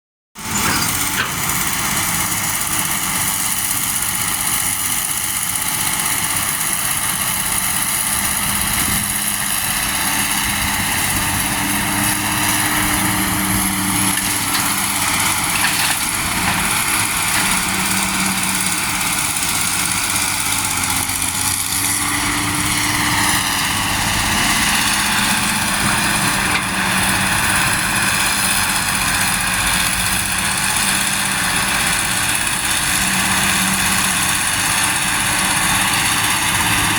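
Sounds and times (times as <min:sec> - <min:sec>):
truck diesel engines running: 0:00.4 - 0:36.9.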